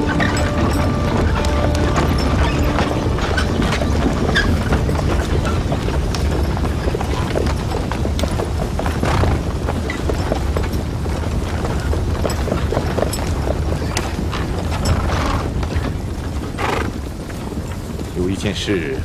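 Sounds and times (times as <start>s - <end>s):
horse hooves clopping on hard ground: 0.0s - 19.0s.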